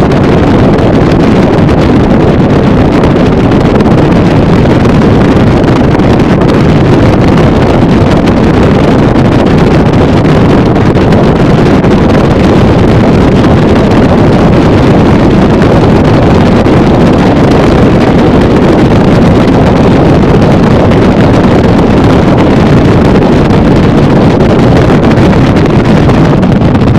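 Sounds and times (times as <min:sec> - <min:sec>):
hull on water: 0:00.0 - 0:26.9
motorboat engine: 0:00.0 - 0:26.9
wind buffeting microphone: 0:00.0 - 0:26.9.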